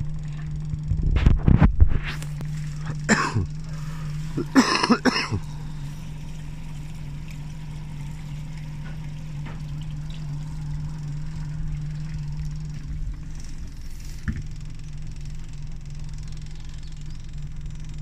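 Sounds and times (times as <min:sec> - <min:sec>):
boat engine running: 0:00.0 - 0:18.0
short noisy bursts: 0:00.0 - 0:18.0.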